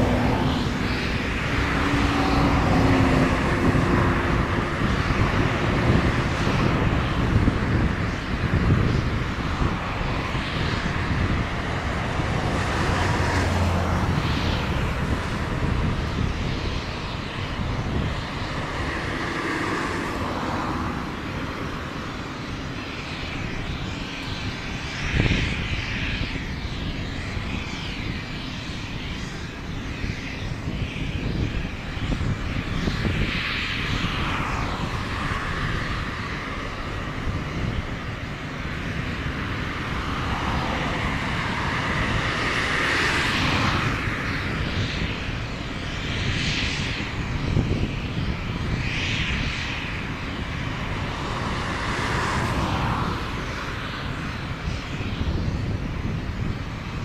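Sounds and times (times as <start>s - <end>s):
aircraft engines rumbling and whining: 0.0s - 57.0s.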